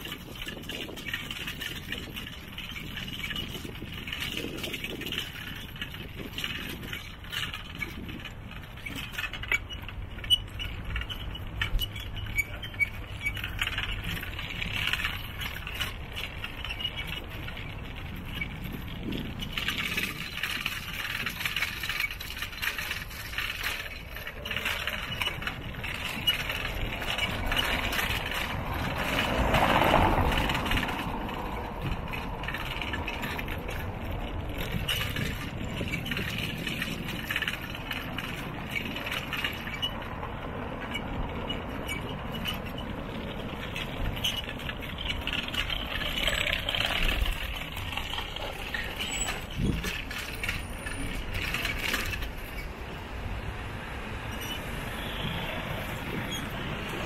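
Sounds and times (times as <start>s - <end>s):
bicycle clinking and rattling: 0.0s - 57.0s.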